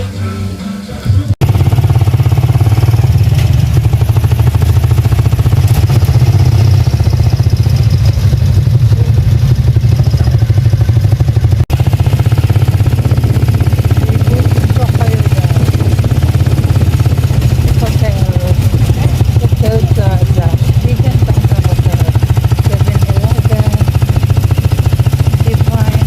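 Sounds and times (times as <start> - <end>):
small engine running: 1.4 - 26.0.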